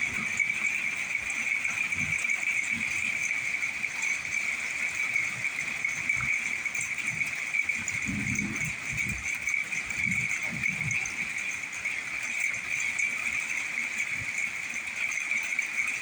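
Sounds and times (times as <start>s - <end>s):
night insects buzzing: 0.0s - 16.0s.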